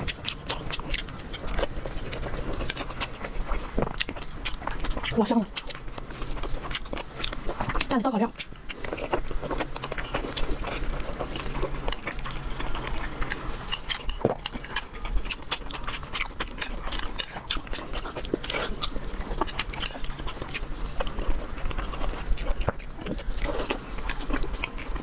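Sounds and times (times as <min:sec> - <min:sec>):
steady low hum: 0:00.0 - 0:25.0
wet chewing and lip smacks: 0:00.0 - 0:25.0.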